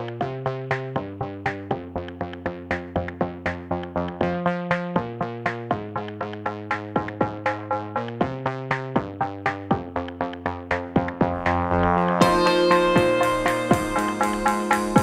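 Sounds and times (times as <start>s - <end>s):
drum-machine beat: 0.0s - 15.0s
synthesizer chords: 0.0s - 15.0s.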